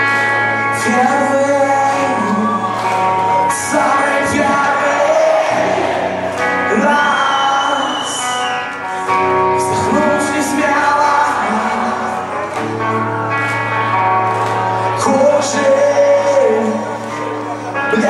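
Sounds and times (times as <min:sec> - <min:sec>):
man singing: 0:00.0 - 0:08.3, 0:09.4 - 0:12.6, 0:14.8 - 0:18.0
live band playing: 0:00.0 - 0:18.0.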